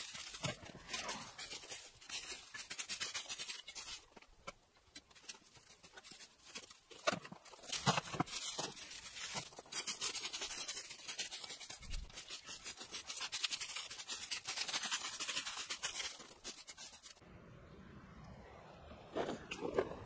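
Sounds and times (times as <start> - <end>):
rake scraping dry leaves: 0.0 - 17.2.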